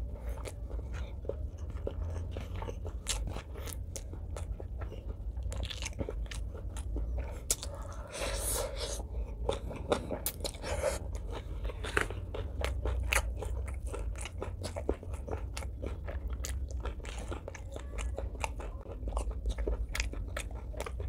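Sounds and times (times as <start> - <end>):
person chewing with wet clicks: 0.0 - 21.0.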